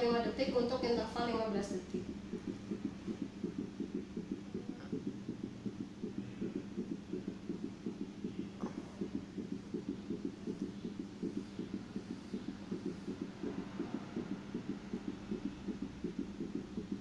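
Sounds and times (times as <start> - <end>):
simulated fetal heartbeat: 0.0 - 17.0.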